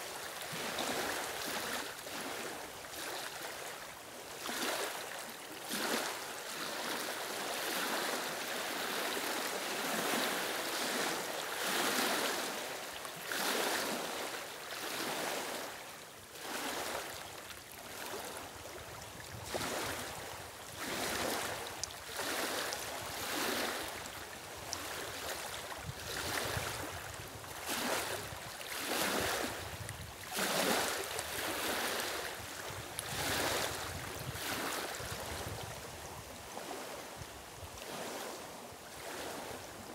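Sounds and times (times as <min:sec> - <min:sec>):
small waves lapping on stones: 0:00.0 - 0:39.9.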